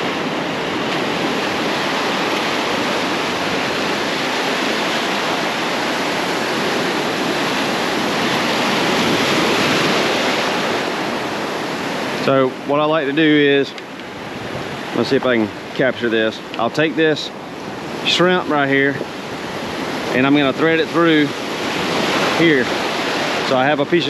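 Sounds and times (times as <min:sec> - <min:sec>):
ocean surf breaking on sand: 0:00.0 - 0:24.0.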